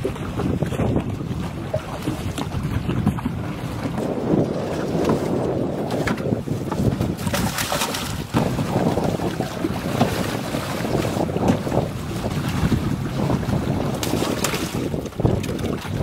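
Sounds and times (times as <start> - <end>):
choppy water splashing: 0.0 - 16.0
wind rumbling on microphone: 0.0 - 16.0
fish thrashing: 1.5 - 16.0.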